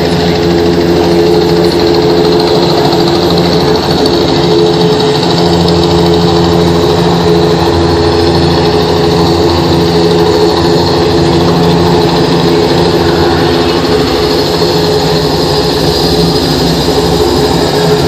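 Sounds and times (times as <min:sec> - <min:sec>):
loud drone of held tones: 0:00.0 - 0:18.0.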